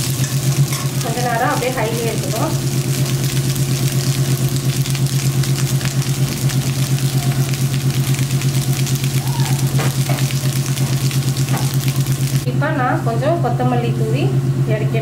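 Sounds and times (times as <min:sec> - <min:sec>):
fried rice sizzling in a pan: 0:00.0 - 0:12.5
pulsing low engine-like hum: 0:00.0 - 0:15.0.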